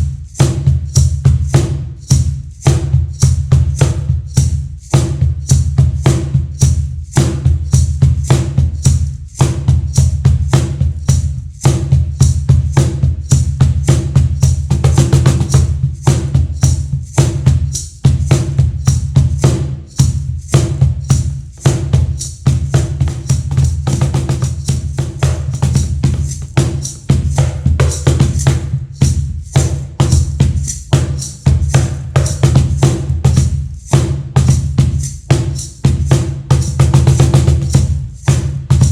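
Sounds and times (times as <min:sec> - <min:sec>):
cajon played by hand: 0:00.0 - 0:38.9.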